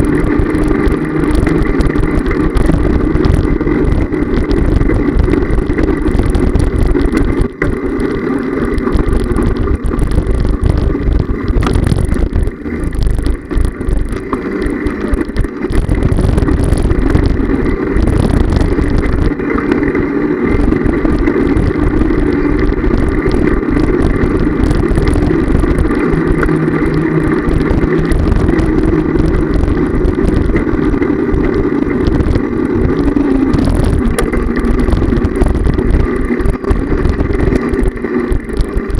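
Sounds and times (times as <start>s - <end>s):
road and wind noise of riding: 0.0s - 38.9s.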